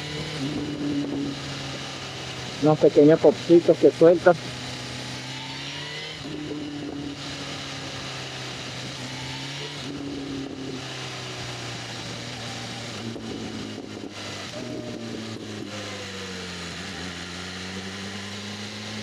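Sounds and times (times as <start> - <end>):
motorcycle engine riding: 0.0 - 19.0.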